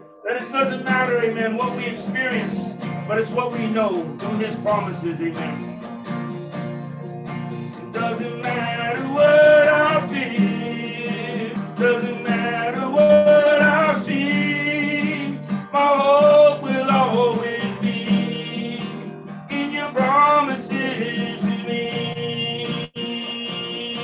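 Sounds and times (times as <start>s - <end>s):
acoustic guitar strumming: 0.0s - 24.0s
man singing worship song: 0.2s - 5.5s, 7.9s - 24.0s.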